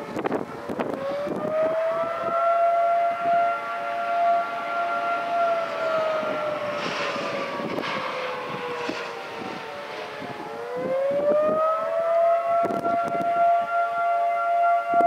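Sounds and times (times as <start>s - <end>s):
two-tone warning siren wailing: 0.0s - 15.0s
wind buffeting microphone: 0.0s - 15.0s.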